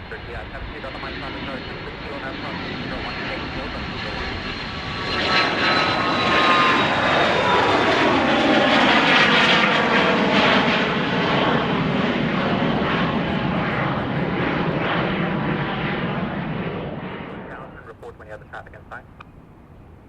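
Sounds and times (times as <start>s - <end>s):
airplane engines passing: 0.0s - 20.0s.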